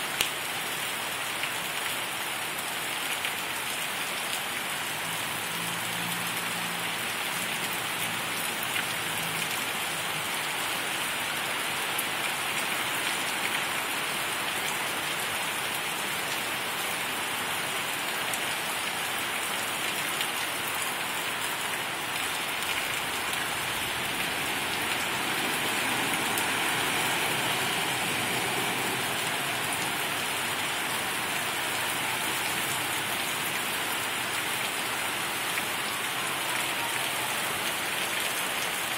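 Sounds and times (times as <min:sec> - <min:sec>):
heavy rain on pavement and trees: 0:00.0 - 0:38.9.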